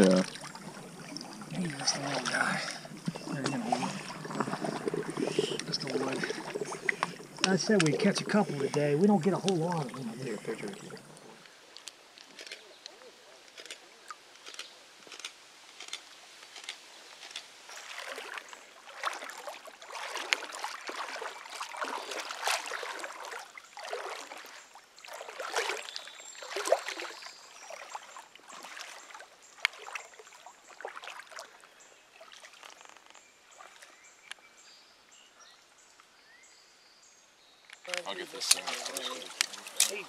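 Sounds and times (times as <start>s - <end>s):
river water sloshing and splashing: 0.0s - 34.3s, 37.9s - 40.0s.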